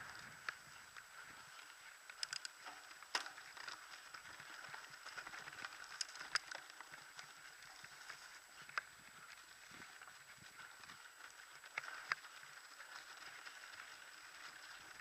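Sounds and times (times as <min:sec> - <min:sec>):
bicycle tyre noise: 0:00.0 - 0:15.0
bike rattles and clicks: 0:00.0 - 0:15.0.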